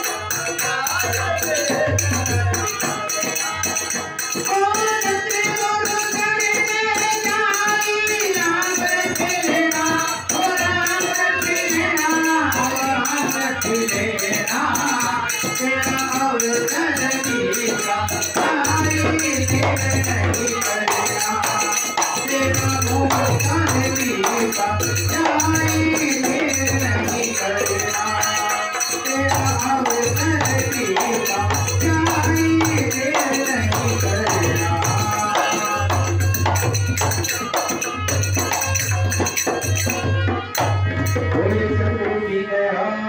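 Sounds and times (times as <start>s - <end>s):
harmonium: 0.0s - 43.0s
man singing into a microphone: 0.0s - 43.0s.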